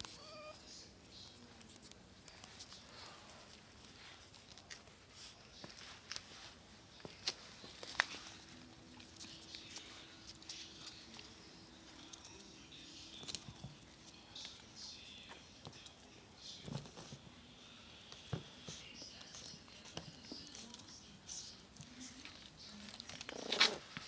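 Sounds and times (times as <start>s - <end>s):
puppy paws pattering: 0.0s - 17.2s, 18.1s - 24.0s.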